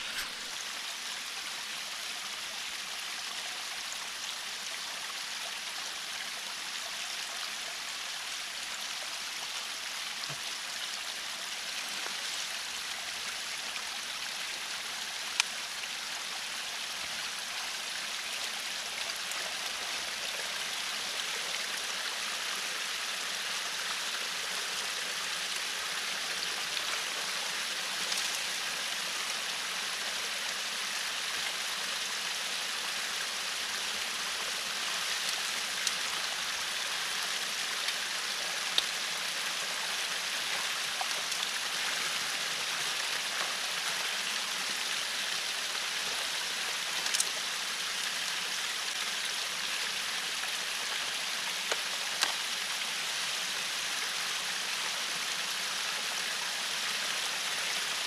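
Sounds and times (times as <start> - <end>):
water rushing through culvert: 0.0 - 58.0.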